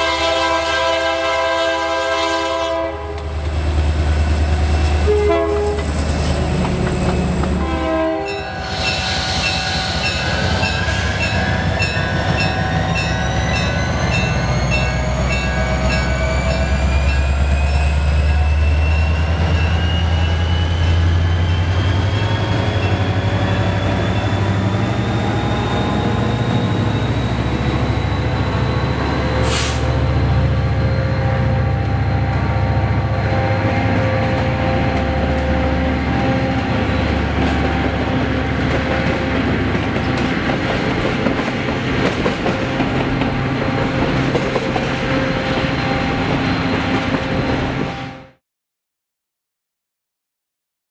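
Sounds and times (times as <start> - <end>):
diesel locomotive rumbling: 0.0 - 48.0
rail noise of passing cars: 0.0 - 48.4.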